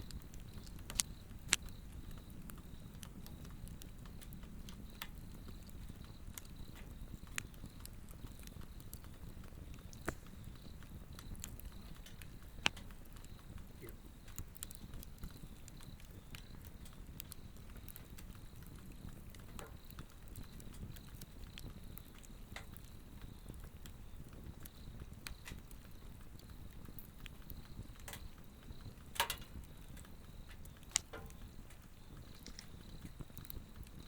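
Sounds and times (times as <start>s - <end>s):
fire pops: 0.0s - 34.0s
low rumble of flame: 0.0s - 34.0s
torch fire crackling: 0.0s - 34.0s.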